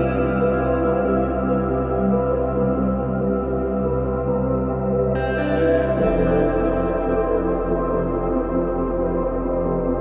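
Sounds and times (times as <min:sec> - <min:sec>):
ambient synthesizer pads: 0:00.0 - 0:10.0.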